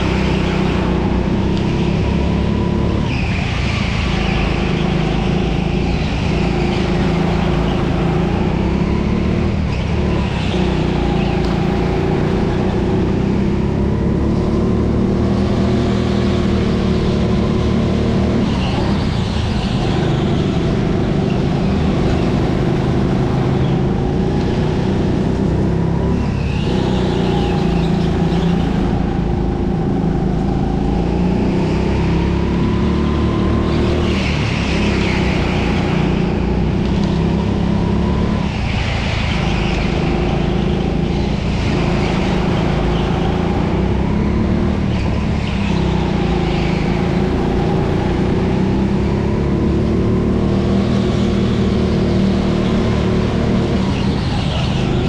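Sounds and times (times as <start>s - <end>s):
tyre squeal: 0.0s - 49.6s, 50.2s - 55.0s
kart engine running hard: 0.0s - 55.0s.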